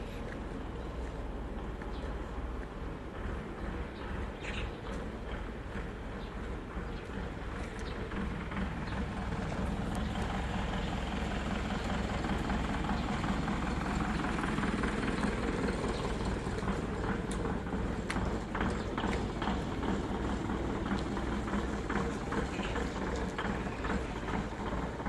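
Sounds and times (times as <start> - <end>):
production line machinery running: 3.1 - 25.0.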